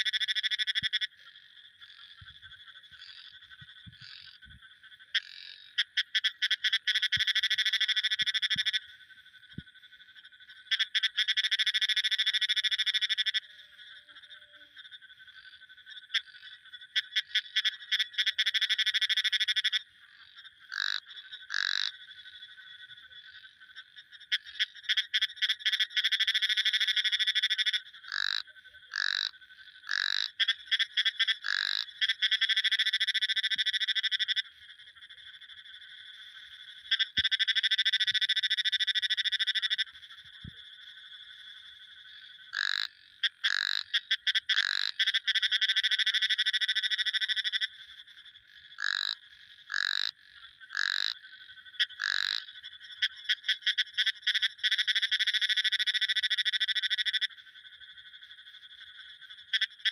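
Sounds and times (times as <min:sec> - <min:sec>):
frogs trilling: 0:00.0 - 0:59.9.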